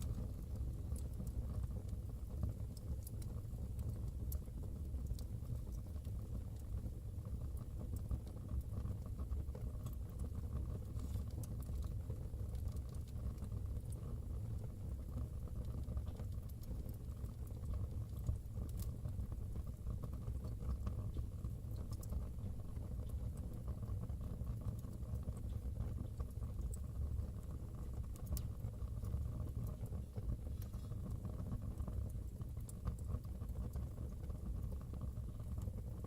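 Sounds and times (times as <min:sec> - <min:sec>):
fire crackling and popping: 0:00.0 - 0:36.0
fire low rumble: 0:00.0 - 0:36.0.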